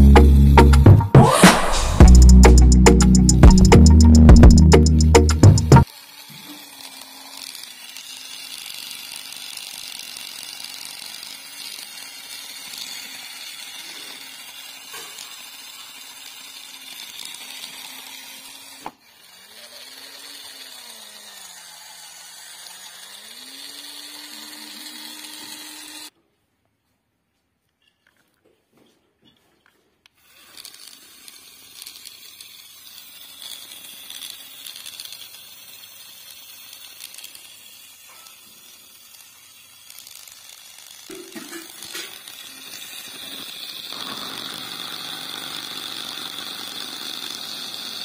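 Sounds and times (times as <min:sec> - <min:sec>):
toy motor gear whine: 0:01.2 - 0:26.1, 0:30.1 - 0:48.0.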